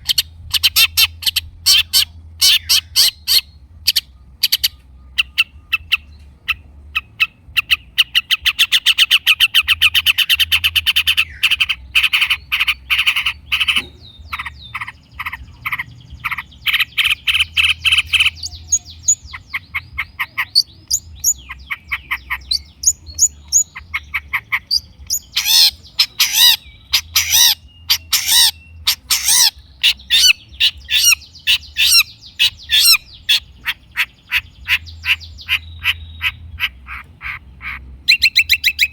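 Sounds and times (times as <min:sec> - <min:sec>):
shrike singing chattering song: 0:00.0 - 0:38.9.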